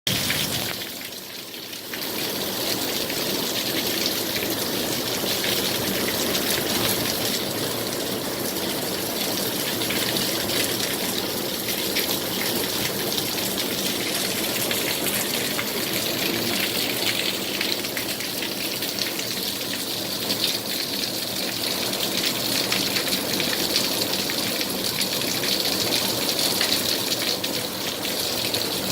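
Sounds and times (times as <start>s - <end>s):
heavy rain falling: 0.1s - 28.9s.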